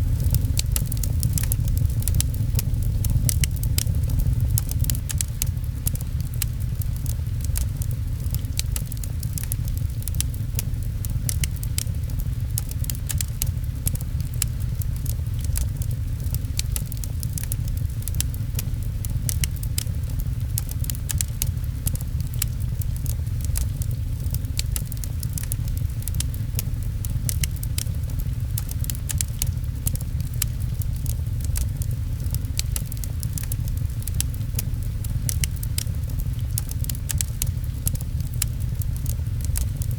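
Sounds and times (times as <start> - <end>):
deep rumble: 0.0 - 39.9
rain patter: 0.0 - 39.9
wood fire crackling and popping: 0.0 - 39.9.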